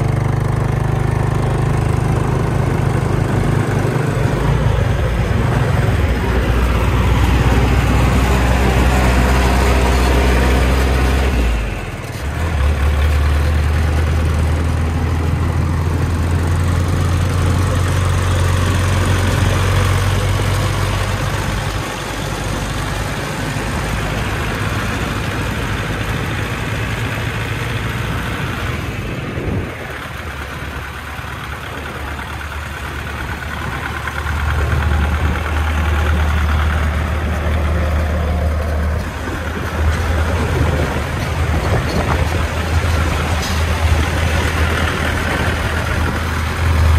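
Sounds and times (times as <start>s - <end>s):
truck engine low rumble: 0.0s - 46.9s.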